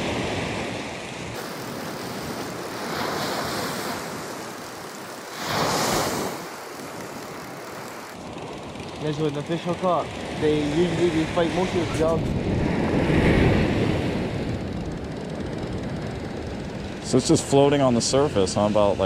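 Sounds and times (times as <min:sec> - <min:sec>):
waves breaking on beach: 0:00.0 - 0:17.6.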